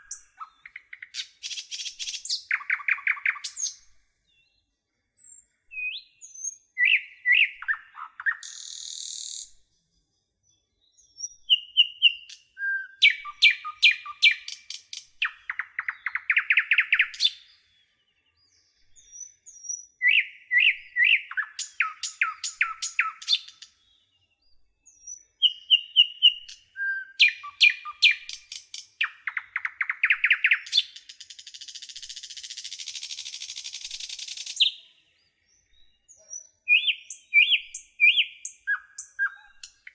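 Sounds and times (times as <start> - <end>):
nightingale singing: 0.0 - 4.6, 5.2 - 39.9.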